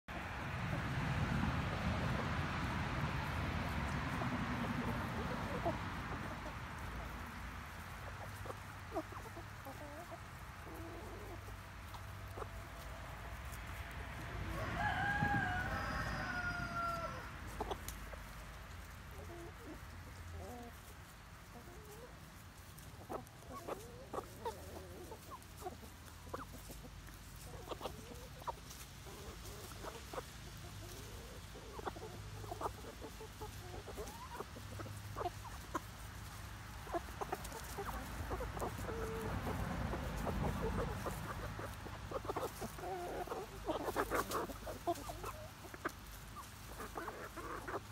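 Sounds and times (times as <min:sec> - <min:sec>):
chickens clucking: 0:00.1 - 0:47.9.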